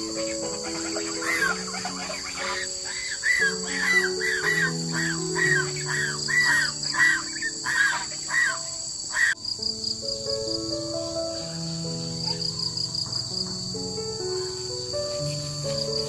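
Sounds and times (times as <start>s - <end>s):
bird chirping: 0.0s - 16.0s
insects buzzing: 0.0s - 16.0s
soft background music: 0.0s - 16.0s.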